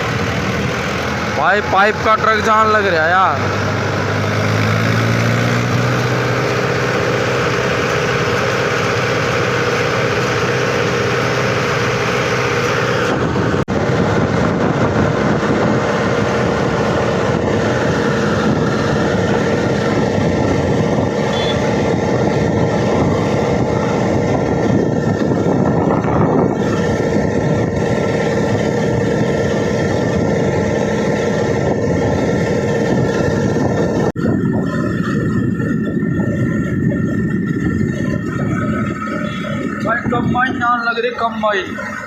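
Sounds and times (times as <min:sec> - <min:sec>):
road noise: 0:00.0 - 0:42.0
tractor diesel engine running: 0:00.0 - 0:42.0.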